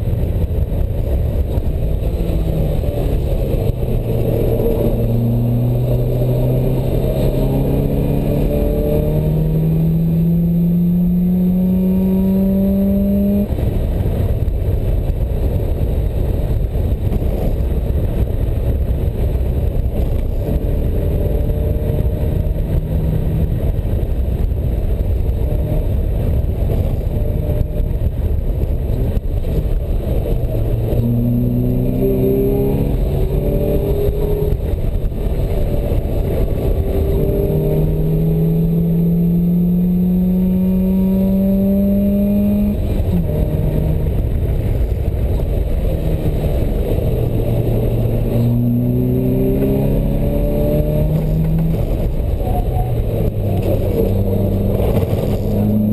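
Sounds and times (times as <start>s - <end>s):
wind and road rumble: 0.0s - 55.9s
sports car engine revving: 1.0s - 13.7s, 19.6s - 23.8s, 25.0s - 28.2s, 29.4s - 55.9s.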